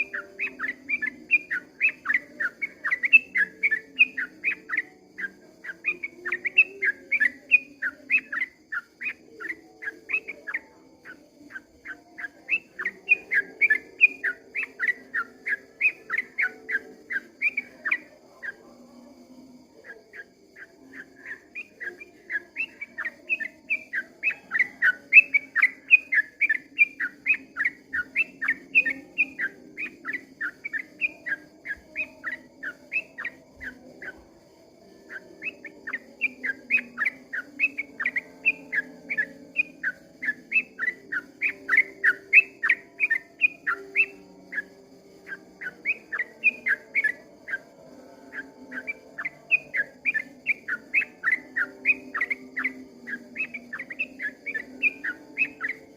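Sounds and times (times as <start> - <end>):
bird singing whistled notes: 0.0 - 55.9.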